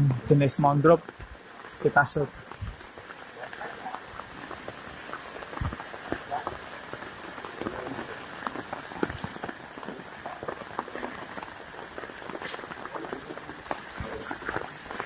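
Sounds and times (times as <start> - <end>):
light rain on pavement and leaves: 0.0 - 15.0.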